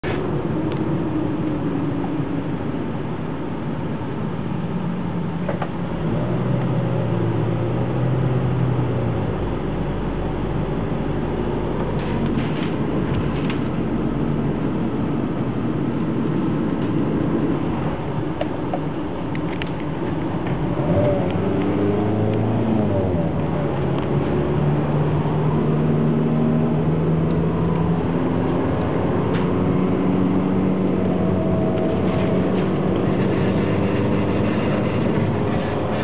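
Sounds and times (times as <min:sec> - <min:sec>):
car driving at speed: 0:00.0 - 0:36.0.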